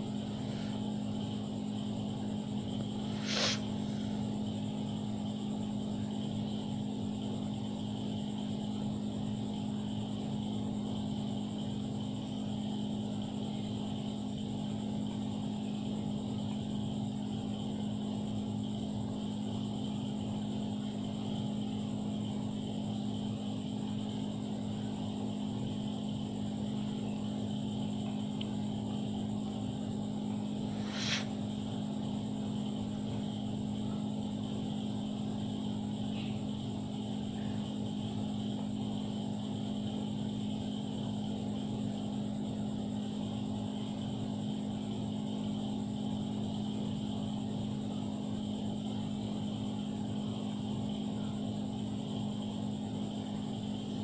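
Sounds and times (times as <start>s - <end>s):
low machine hum with high whine: 0.0s - 54.0s.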